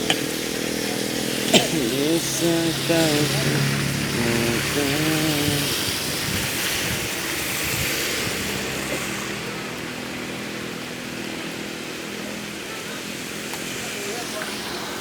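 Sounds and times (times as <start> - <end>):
vehicle engine droning: 0.0 - 12.6
heavy rain pouring: 0.0 - 15.0.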